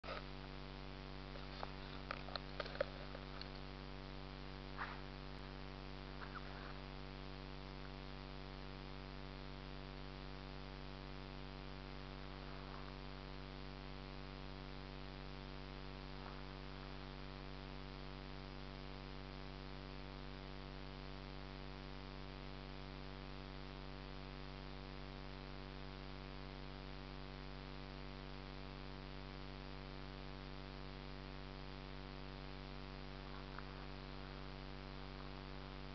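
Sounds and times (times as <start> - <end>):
electronic hum and hiss: 0.0 - 35.9.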